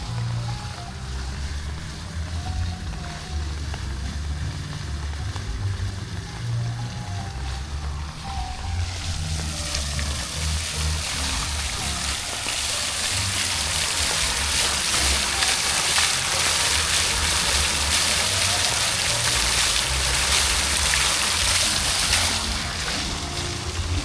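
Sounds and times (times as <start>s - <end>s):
heavy rain hiss: 0.0s - 24.0s
low rumble: 0.0s - 24.0s
rain drop ticks: 0.0s - 24.0s.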